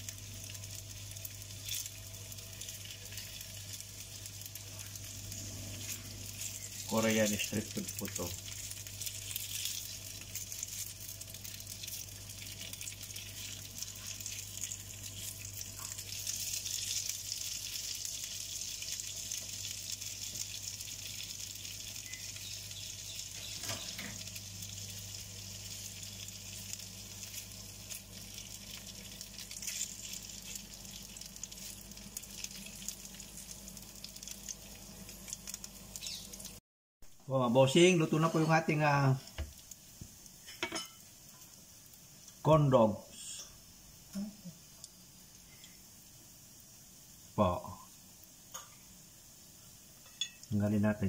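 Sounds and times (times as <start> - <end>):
hot dogs sizzling in oil: 0.0 - 51.0.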